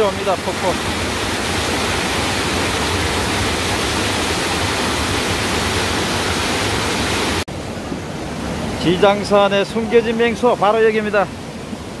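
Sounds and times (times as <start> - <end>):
stream water rushing through rocks: 0.0 - 12.0
waterfall rushing: 0.0 - 12.0.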